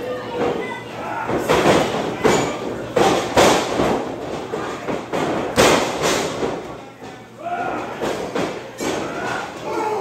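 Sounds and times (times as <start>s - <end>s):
crowd voices: 0.0s - 5.1s, 6.2s - 10.0s.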